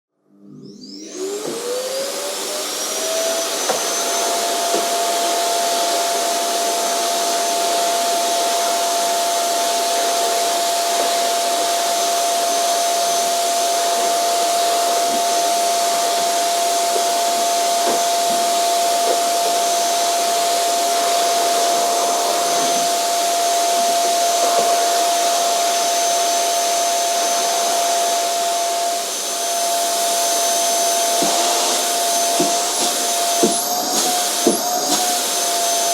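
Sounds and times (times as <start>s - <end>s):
vacuum cleaner running: 0.3s - 35.9s.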